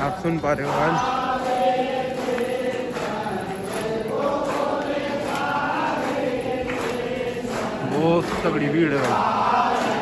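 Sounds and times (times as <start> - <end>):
group singing a devotional hymn: 0.0 - 10.0.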